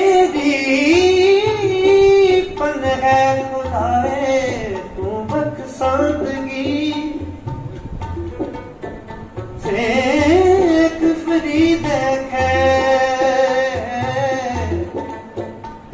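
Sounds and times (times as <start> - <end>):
bowed sarangi melody: 0.0 - 15.9
tabla strokes: 0.0 - 15.9.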